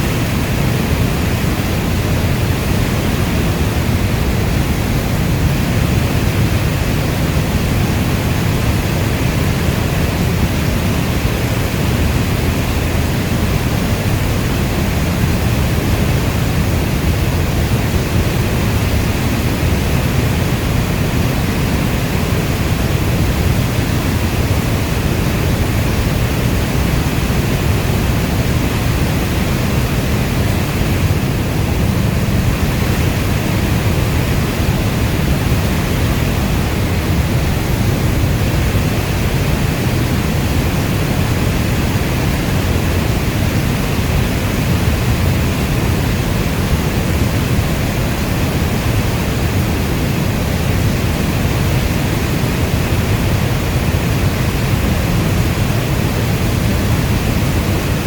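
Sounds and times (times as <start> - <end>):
dense rain noise: 0.0 - 58.0.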